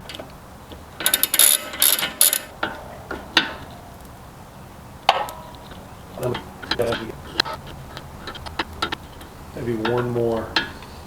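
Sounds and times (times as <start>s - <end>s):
hand tools clicking on metal: 0.0s - 4.1s, 5.1s - 11.0s.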